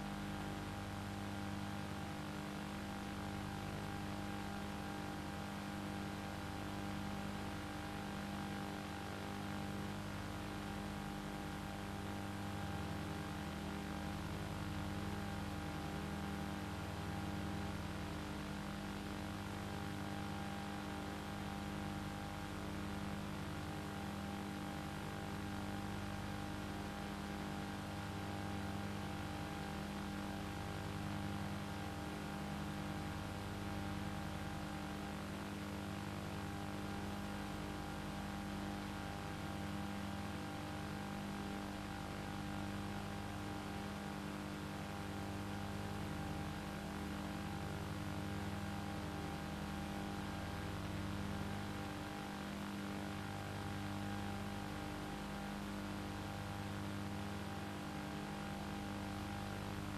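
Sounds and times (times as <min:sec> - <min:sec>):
mechanical hum with held tones: 0:00.0 - 0:59.9.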